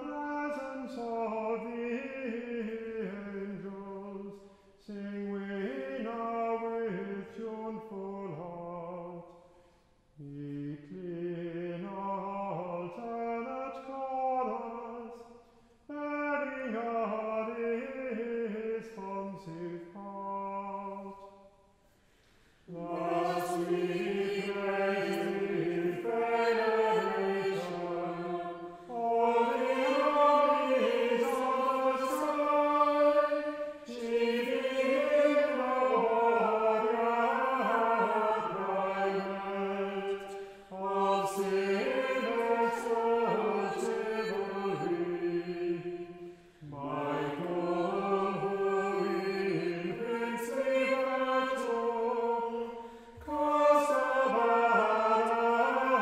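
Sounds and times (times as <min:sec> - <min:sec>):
choir singing chant: 0:00.0 - 0:09.2, 0:10.2 - 0:15.3, 0:16.0 - 0:21.4, 0:22.7 - 0:56.0.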